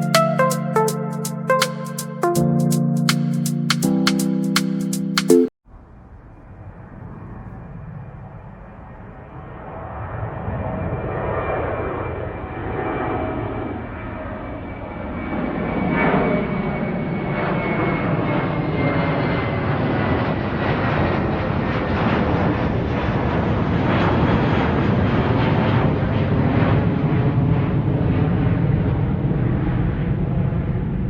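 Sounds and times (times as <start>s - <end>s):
airplane engine noise: 5.3s - 31.0s.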